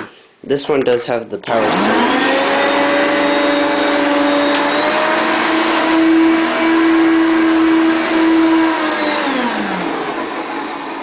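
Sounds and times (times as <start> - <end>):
upright vacuum cleaner running: 1.5 - 11.0.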